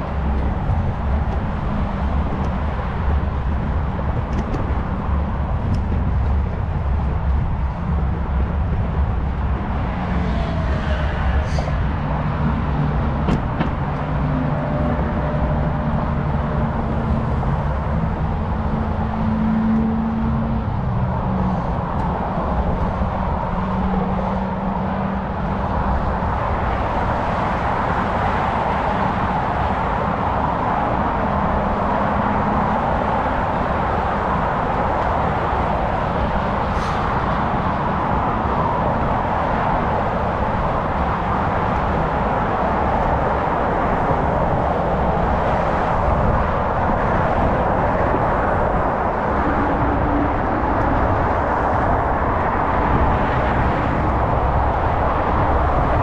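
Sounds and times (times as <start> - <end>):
passing motor traffic: 0.0 - 56.0
wind and road noise: 0.0 - 56.0.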